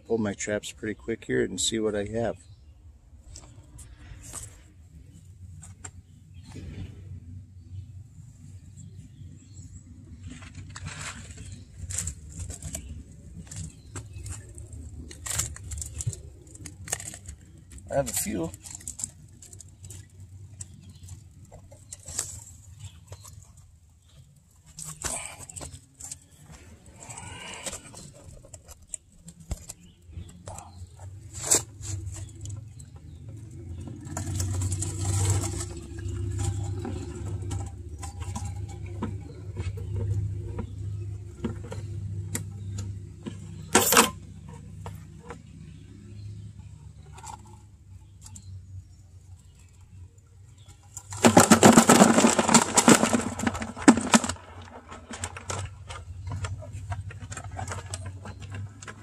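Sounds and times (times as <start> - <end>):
low steady hum: 2.0 - 59.0.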